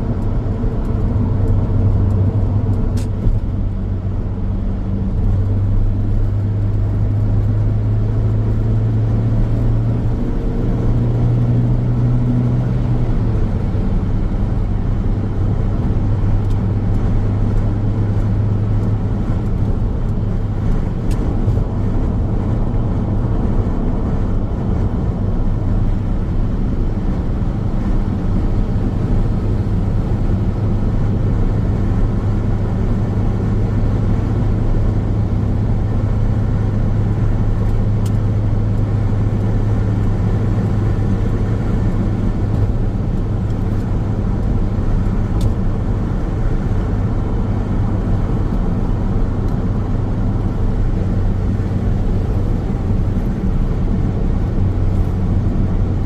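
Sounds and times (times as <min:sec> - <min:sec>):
car tyre and engine drone: 0:00.0 - 0:56.0.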